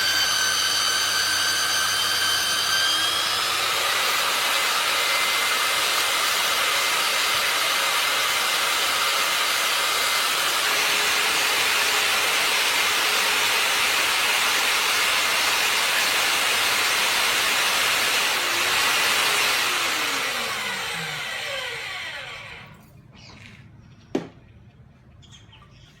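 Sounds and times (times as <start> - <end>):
drill motor running: 0.0 - 22.8.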